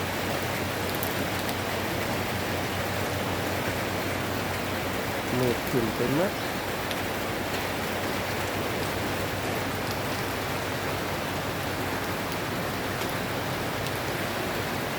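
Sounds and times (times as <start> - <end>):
steady rain hiss: 0.0 - 14.9.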